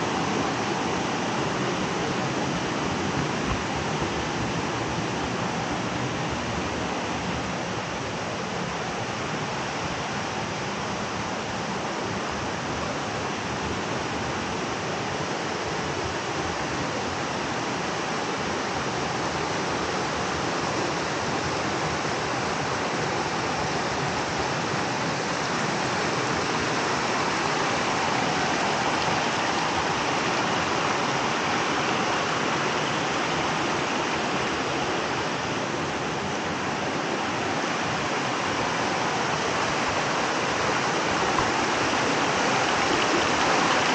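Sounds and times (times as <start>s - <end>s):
creek rushing over rocks: 0.0s - 43.9s.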